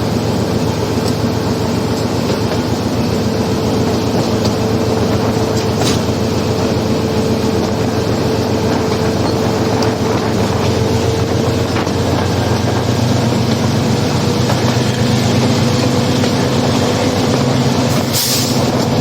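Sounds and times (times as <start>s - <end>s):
train engine whine: 0.0s - 19.0s
train rumbling: 0.0s - 19.0s
wheels clicking: 0.0s - 19.0s.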